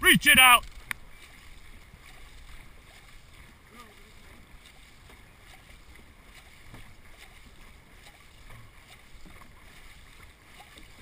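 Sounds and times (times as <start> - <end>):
water rushing along hull: 0.0 - 11.0
paddle strokes in water: 0.3 - 11.0.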